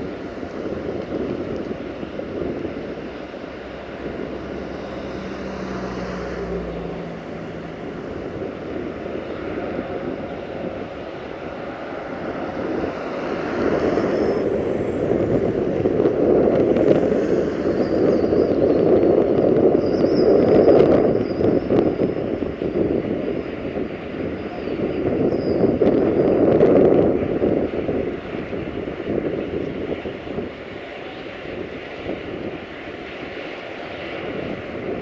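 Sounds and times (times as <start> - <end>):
diesel locomotive rumbling: 0.0 - 35.0.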